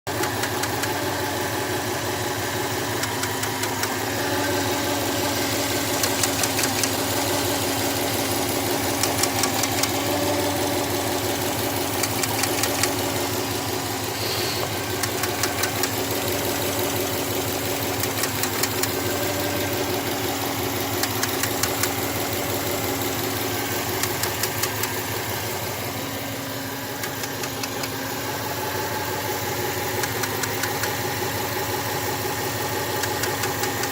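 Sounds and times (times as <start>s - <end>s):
engine knocking in rapid ticks: 0.1s - 1.1s, 2.8s - 28.2s, 29.5s - 33.9s
car engine idling: 0.1s - 33.9s.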